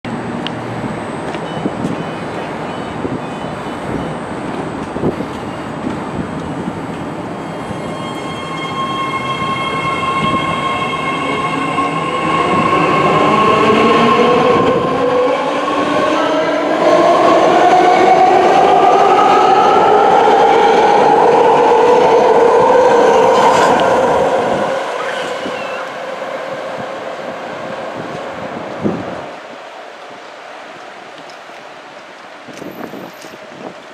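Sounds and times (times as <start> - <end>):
train wheels rumbling on rails: 0.1 - 33.9.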